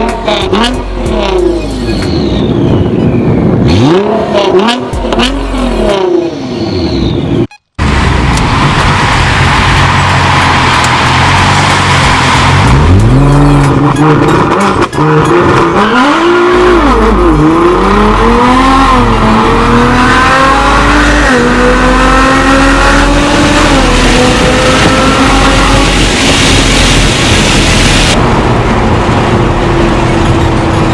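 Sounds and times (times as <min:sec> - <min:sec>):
car engine revving: 0:00.0 - 0:06.7, 0:07.8 - 0:30.9.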